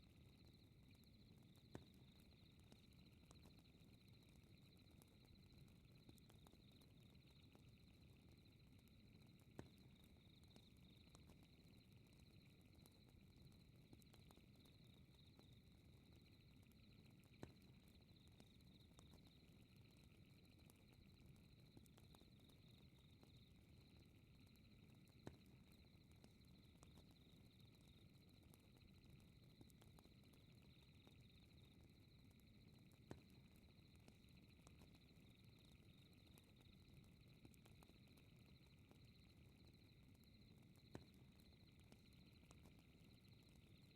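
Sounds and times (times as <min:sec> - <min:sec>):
crickets chirping: 0:00.1 - 0:43.9.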